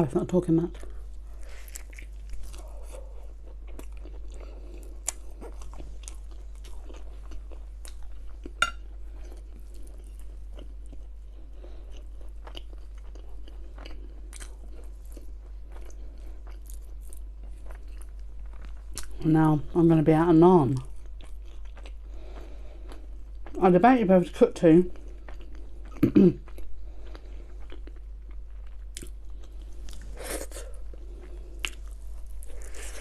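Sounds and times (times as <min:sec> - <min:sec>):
steady low hum: 0:00.0 - 0:33.0
person chewing food: 0:00.8 - 0:19.2, 0:20.7 - 0:23.6, 0:24.9 - 0:33.0.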